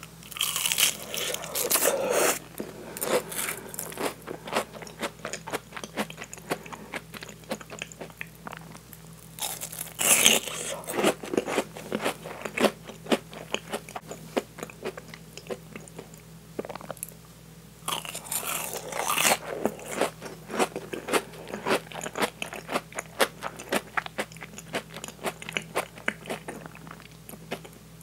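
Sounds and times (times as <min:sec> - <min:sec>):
chewing crunchy fried crust: 0:00.0 - 0:17.2, 0:17.8 - 0:27.8.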